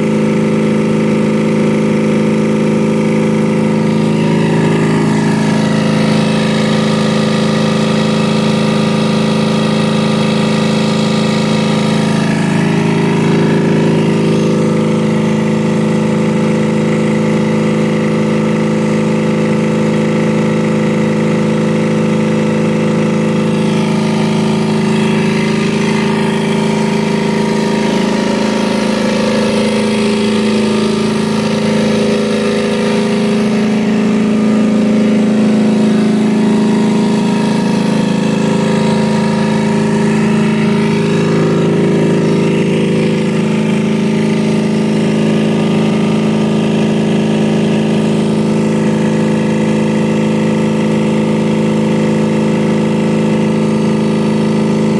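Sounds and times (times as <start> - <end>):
refrigeration compressor humming: 0.0 - 54.9.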